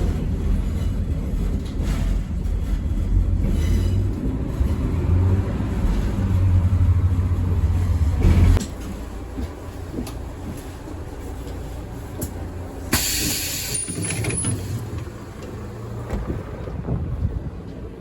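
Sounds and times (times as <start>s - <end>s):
train rattling and clicking: 0.0s - 18.0s.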